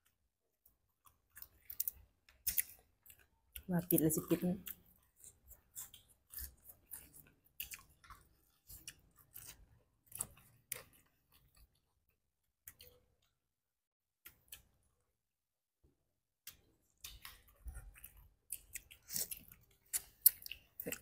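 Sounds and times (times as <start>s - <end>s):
people chewing and crunching food: 0.0s - 13.4s, 14.2s - 15.1s, 16.4s - 21.0s.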